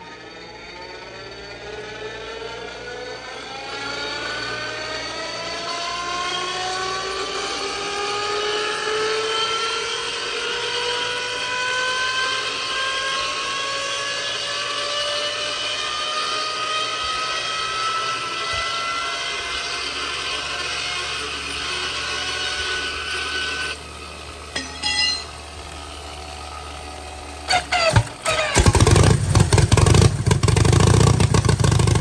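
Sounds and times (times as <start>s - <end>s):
inertia starter flywheel whine: 0.0s - 32.0s.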